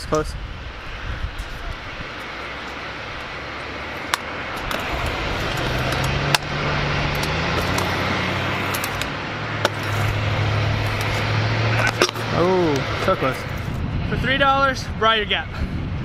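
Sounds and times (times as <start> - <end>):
scooter wheels rolling on concrete: 0.1 - 14.7.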